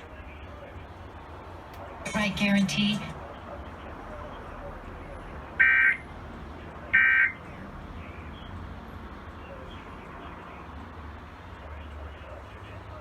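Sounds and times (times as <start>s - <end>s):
radio hiss and hum: 0.0s - 13.0s.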